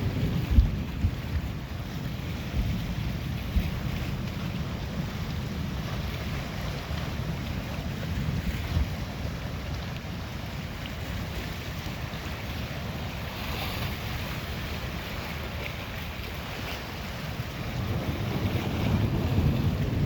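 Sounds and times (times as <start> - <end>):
lake waves washing: 0.0 - 20.0
wind buffeting microphone: 0.0 - 20.0
surf hiss: 1.5 - 20.0.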